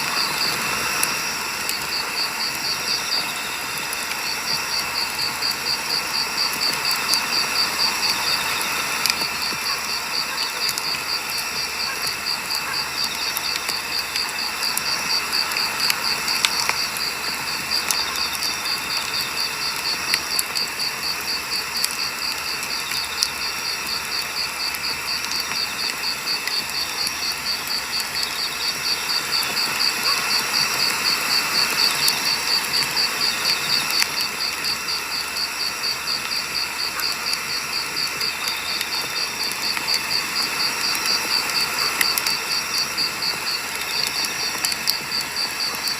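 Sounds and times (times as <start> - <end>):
crickets chirping: 0.0 - 45.9
wood fire crackling: 0.0 - 45.9.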